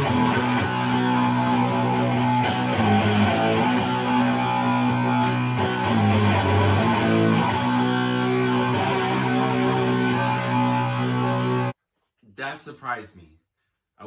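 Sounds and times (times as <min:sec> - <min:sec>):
distorted electric guitar chords: 0:00.0 - 0:11.8.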